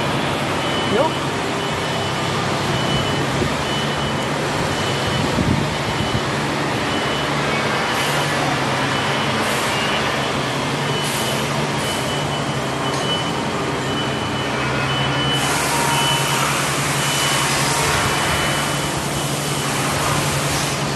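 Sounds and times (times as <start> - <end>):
machines humming and hissing: 0.0 - 20.9.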